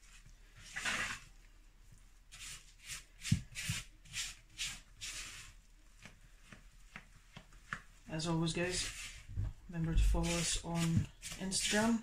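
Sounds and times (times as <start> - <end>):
wooden spoon scraping dough: 0.0 - 1.4, 2.3 - 12.0.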